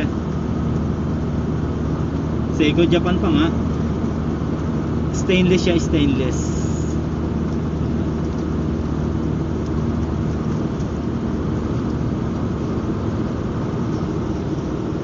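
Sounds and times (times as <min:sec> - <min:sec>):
road noise: 0:00.0 - 0:15.0
van engine hum: 0:00.0 - 0:15.0.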